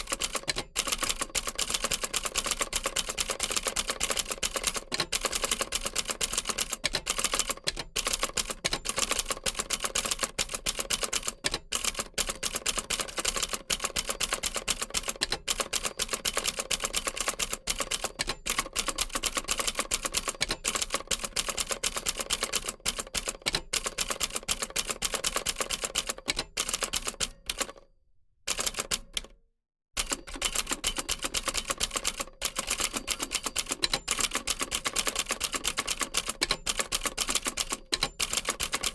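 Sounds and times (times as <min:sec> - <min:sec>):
old typewriter typing: 0:00.0 - 0:27.8, 0:28.5 - 0:29.3, 0:30.0 - 0:38.9.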